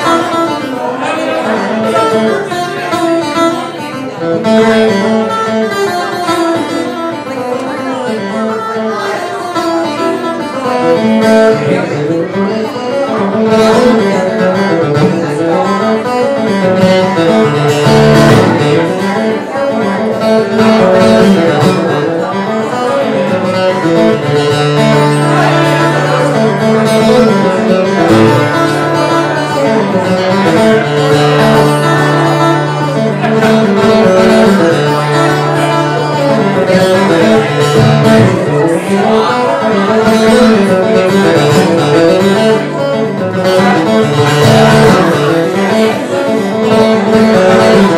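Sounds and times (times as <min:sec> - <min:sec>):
acoustic guitar playing: 0:00.0 - 0:47.9.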